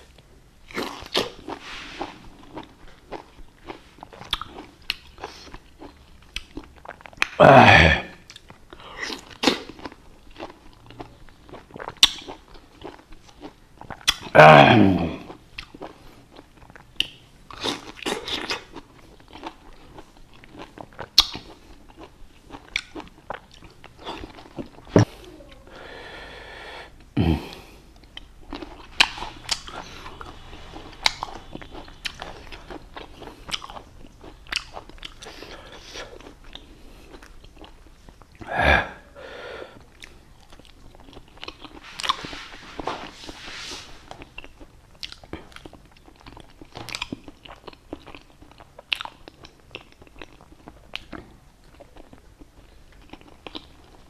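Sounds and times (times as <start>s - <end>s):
person biting and chewing fruit: 0.0s - 25.2s, 27.0s - 39.0s, 39.8s - 52.2s.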